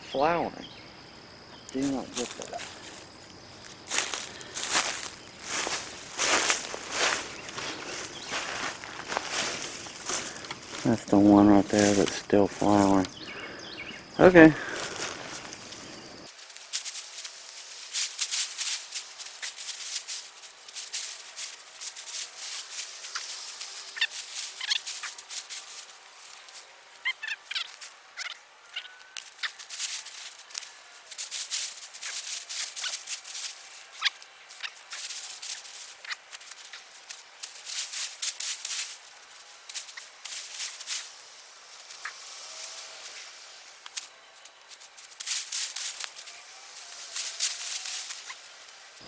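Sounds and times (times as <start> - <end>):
rustling plants and soil digging: 1.6 - 49.0.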